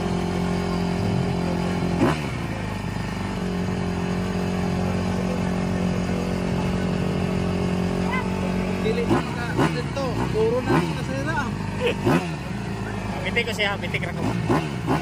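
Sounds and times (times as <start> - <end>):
motocross bike engine idling: 0.0 - 15.0.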